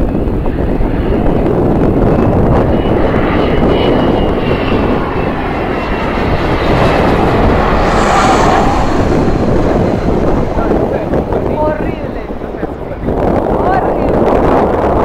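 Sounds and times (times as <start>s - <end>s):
airplane engine rush: 0.0s - 15.0s.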